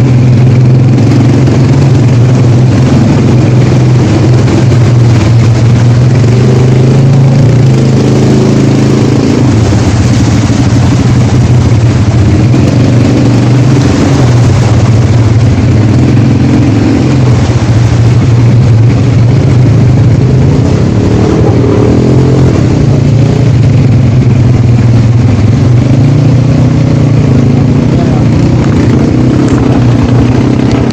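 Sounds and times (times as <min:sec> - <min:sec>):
quad bike engine running: 0:00.0 - 0:30.9.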